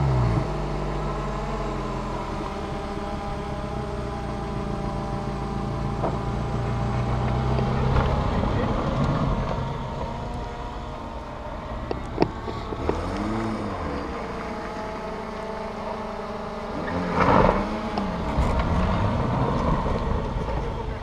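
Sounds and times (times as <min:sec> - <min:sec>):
petrol engine revving: 0:00.0 - 0:21.0.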